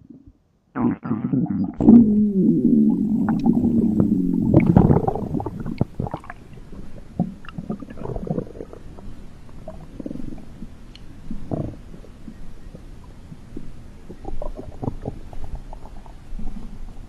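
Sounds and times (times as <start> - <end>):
stomach rumbling: 0.0 - 17.0.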